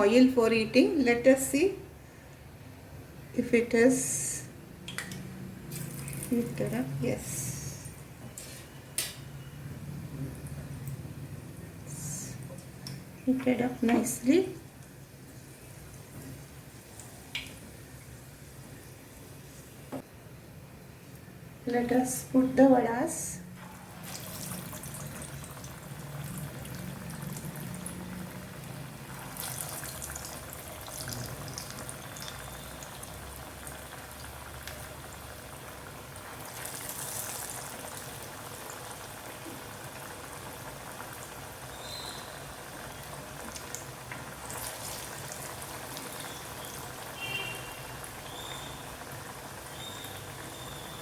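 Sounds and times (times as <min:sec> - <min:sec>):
food deep-frying in oil: 0:04.8 - 0:20.0, 0:21.8 - 0:51.0.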